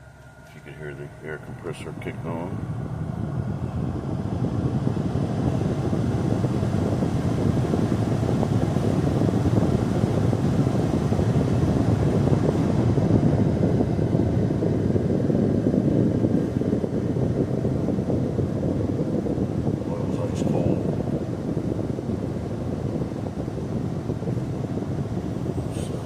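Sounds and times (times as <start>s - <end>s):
air-conditioning compressor running: 0.0s - 26.0s.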